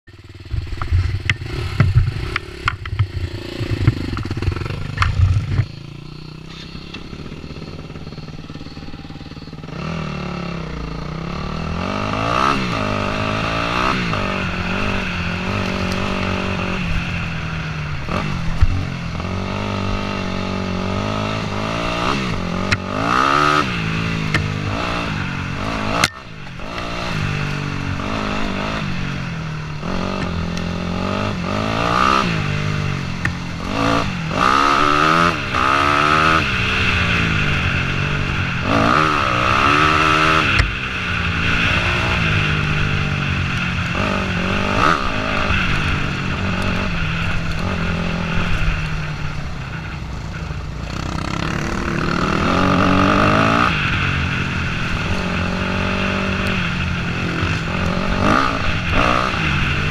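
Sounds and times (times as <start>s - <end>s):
dirt bike engine revving: 0.1s - 59.9s.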